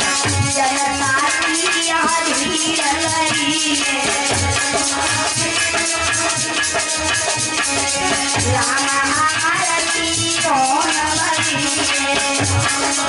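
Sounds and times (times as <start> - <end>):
boy singing into microphone: 0.0 - 13.0
harmonium: 0.0 - 13.0
rattling percussion: 0.0 - 13.0.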